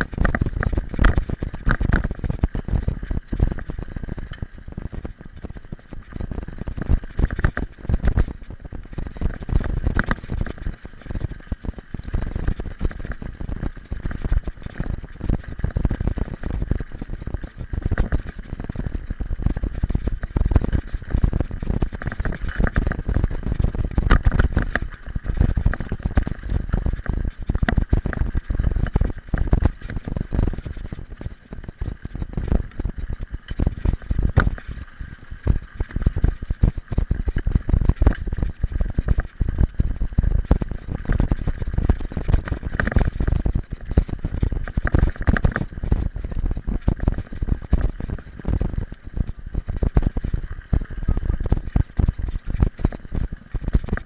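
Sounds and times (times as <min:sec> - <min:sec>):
bike rattling over stones: 0:00.0 - 0:54.0
bike rolling over gravel: 0:00.0 - 0:54.0.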